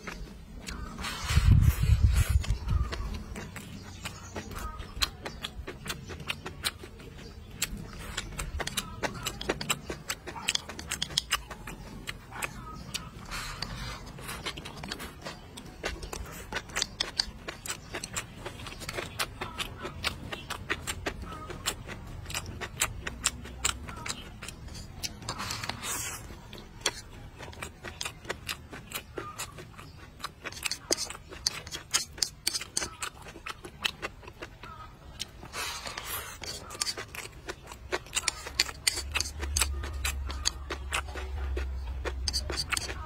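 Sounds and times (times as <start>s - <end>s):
chewing with mouth clicks: 0.0s - 43.0s
rustling slurp: 0.0s - 43.0s.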